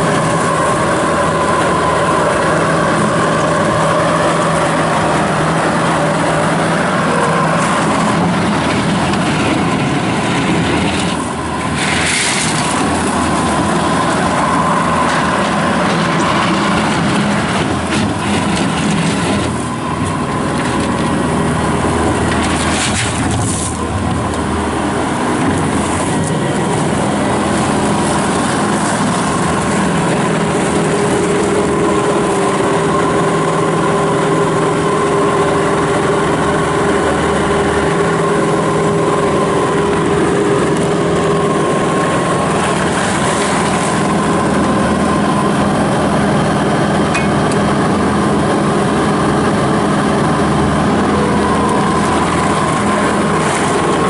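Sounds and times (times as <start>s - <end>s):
diesel loader engine running: 0.0s - 54.0s
high steady whine: 0.0s - 54.0s.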